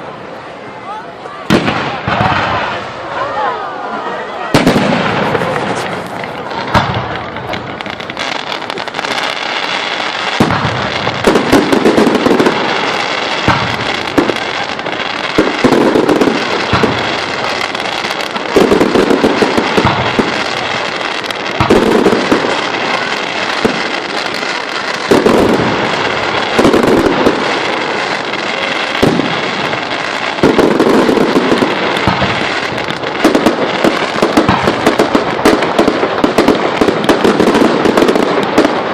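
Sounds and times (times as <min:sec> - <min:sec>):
firework crackling: 0:00.0 - 0:38.9.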